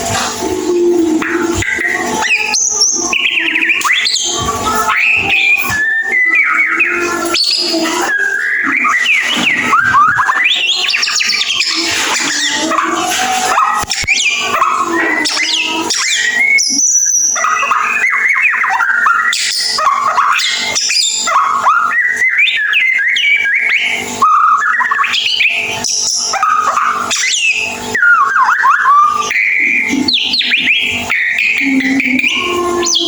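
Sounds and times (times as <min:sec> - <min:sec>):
bird singing whistled trills: 0:00.0 - 0:33.0.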